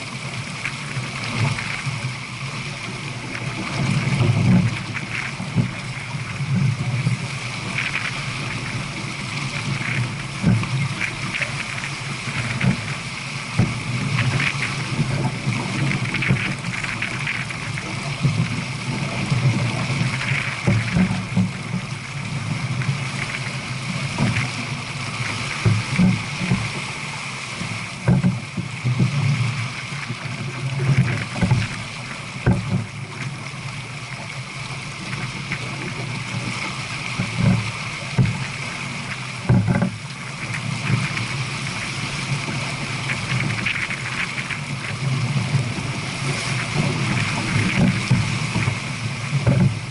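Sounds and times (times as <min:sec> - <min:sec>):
water rushing along boat hull: 0:00.0 - 0:49.9
wind gusting on microphone: 0:00.0 - 0:49.9.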